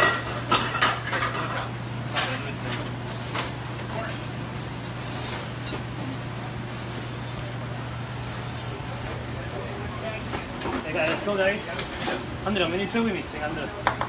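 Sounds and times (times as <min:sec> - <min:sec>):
kitchen equipment hum: 0:00.0 - 0:14.0.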